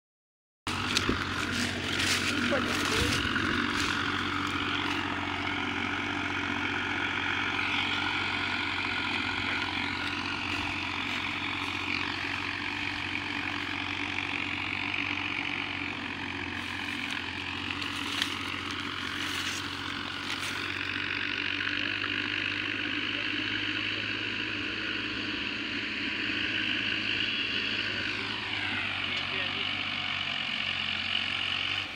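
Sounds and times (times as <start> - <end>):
tractor diesel engine labouring: 0.7 - 31.9.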